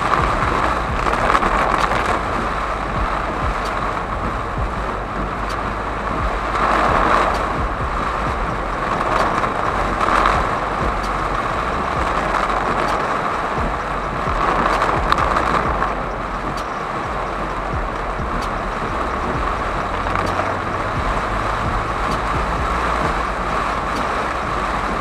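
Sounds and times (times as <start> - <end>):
heavy rain on car windscreen: 0.0 - 25.0
tyre and road noise: 0.0 - 25.0
windscreen wipers ticking: 0.0 - 25.0.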